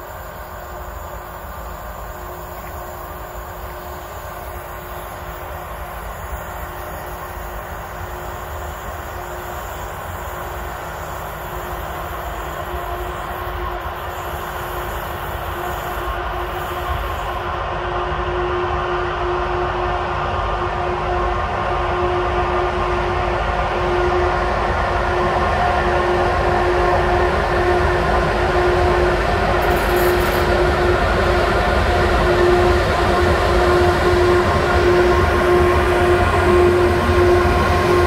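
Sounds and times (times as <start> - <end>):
locomotive hum: 0.0 - 20.6, 26.1 - 38.0
train rumble: 0.0 - 38.0.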